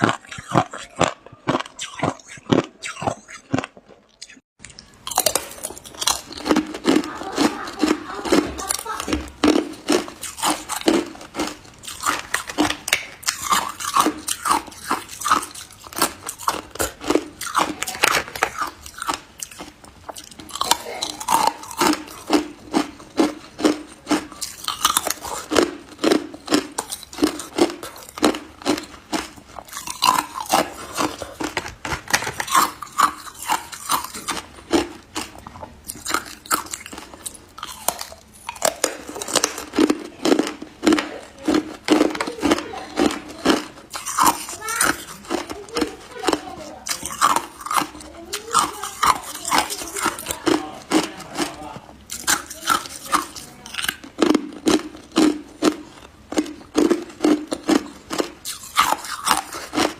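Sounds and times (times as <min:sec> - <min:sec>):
ice crunching while chewed: 0:00.0 - 0:59.9.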